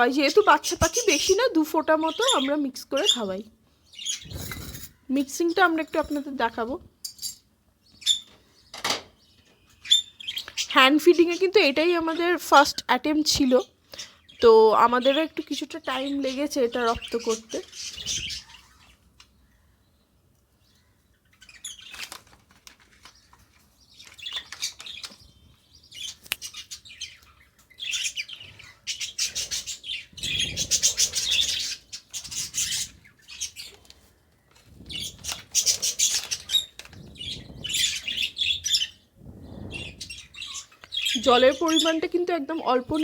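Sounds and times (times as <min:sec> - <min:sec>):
lovebirds chirping: 0:00.0 - 0:43.0.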